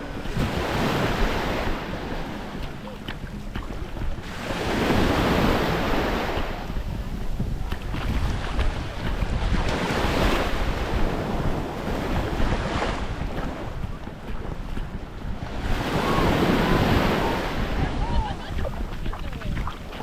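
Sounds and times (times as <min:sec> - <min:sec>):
small waves washing on beach: 0:00.0 - 0:20.0
wind rumbling on microphone: 0:00.0 - 0:20.0.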